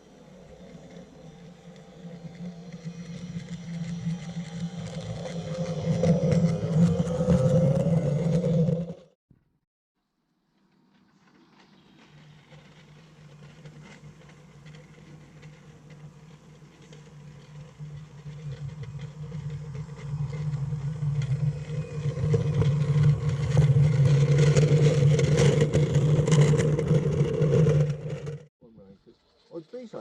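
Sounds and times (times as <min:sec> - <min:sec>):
model locomotive humming: 0:00.0 - 0:09.0, 0:11.2 - 0:28.5
wheels clicking on track: 0:00.0 - 0:09.0, 0:10.7 - 0:28.5.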